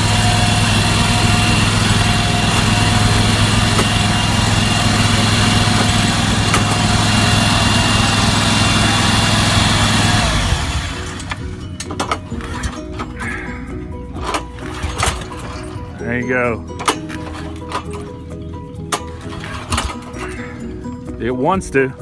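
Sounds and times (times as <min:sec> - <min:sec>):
lawn mower engine idling: 0:00.0 - 0:21.9.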